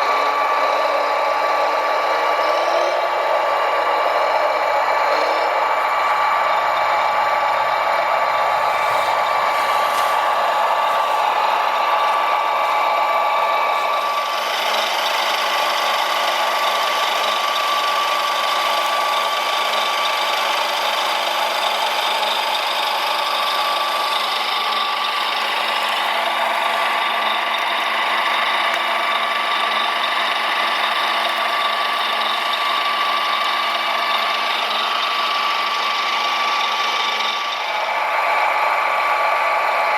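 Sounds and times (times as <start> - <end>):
small electric motors whining: 0.0 - 39.8.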